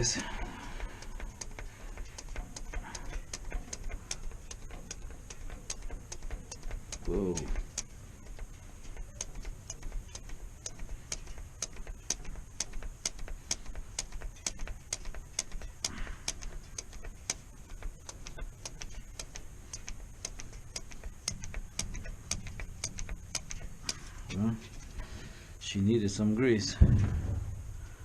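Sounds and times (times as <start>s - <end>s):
mechanical ticking: 0.0s - 25.6s
low steady hum: 0.0s - 28.0s.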